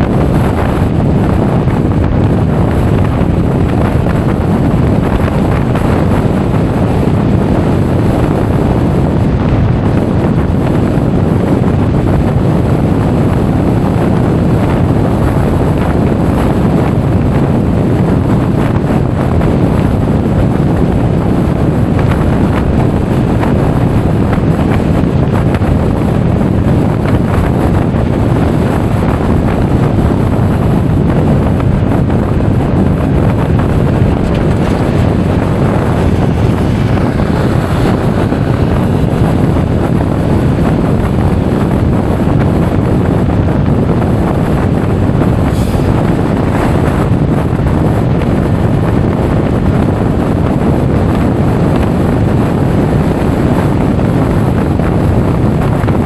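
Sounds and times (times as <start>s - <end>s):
scooter and road noise: 0.0s - 56.0s
wind buffeting microphone: 0.0s - 56.0s.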